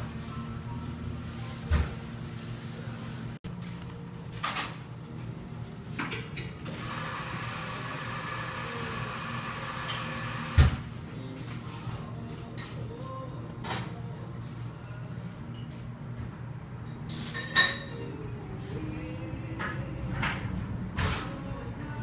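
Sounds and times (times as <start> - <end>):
low hum of coffee shop: 0.0 - 22.0.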